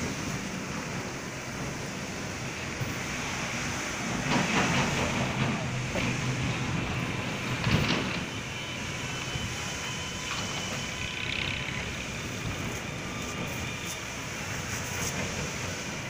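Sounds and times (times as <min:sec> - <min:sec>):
conveyor belt rushing noise: 0:00.0 - 0:16.0
conveyor motor humming: 0:00.0 - 0:16.0.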